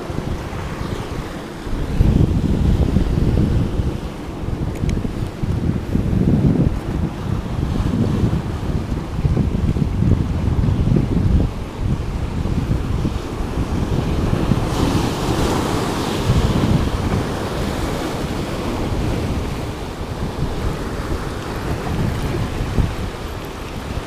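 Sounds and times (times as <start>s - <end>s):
ocean surf breaking over rocks: 0.0s - 24.0s
wind buffeting microphone: 0.0s - 24.0s.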